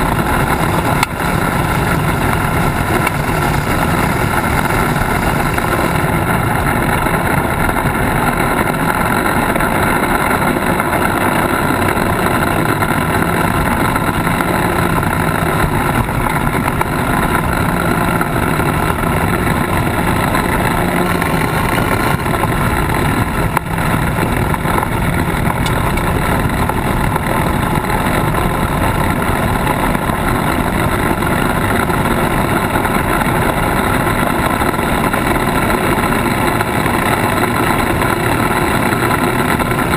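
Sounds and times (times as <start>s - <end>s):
off-road vehicle engine: 0.0s - 39.9s
wind: 0.0s - 39.9s.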